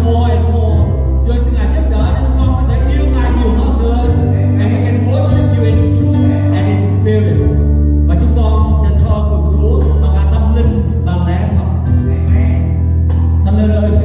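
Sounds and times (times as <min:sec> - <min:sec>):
person singing: 0:00.0 - 0:12.7
live band playing: 0:00.0 - 0:14.0.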